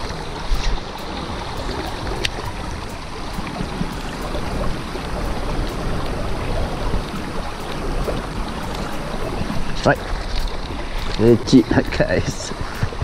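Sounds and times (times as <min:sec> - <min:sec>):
river water flowing over rocks: 0:00.0 - 0:13.0
wind rumbling on microphone: 0:00.0 - 0:13.0.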